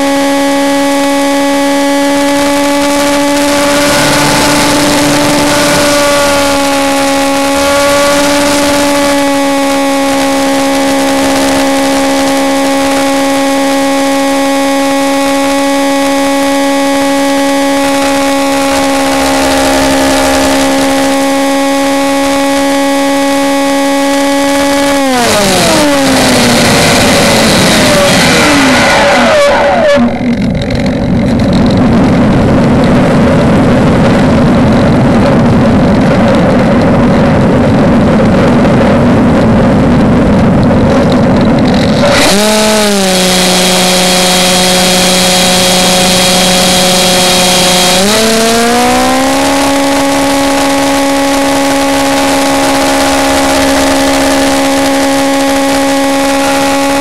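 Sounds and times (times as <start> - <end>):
loud rushing noise: 0.0 - 14.0, 14.8 - 57.0
electric motor and propeller whine: 0.0 - 57.0.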